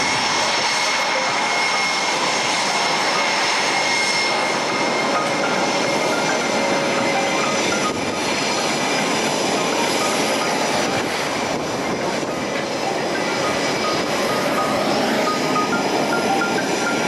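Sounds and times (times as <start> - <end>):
aircraft engine: 0.0 - 17.0.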